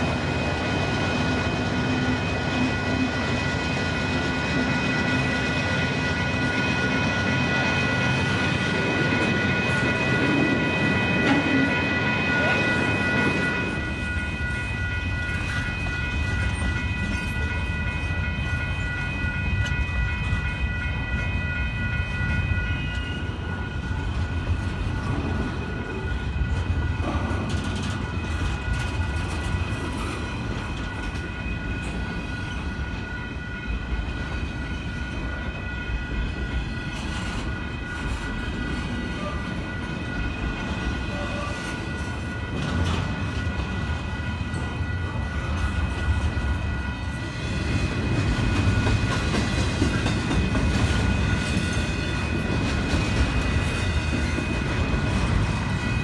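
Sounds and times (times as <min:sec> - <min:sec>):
rail cars clicking and knocking: 0:00.0 - 0:56.0
train wheels rumbling on rail: 0:00.0 - 0:56.0.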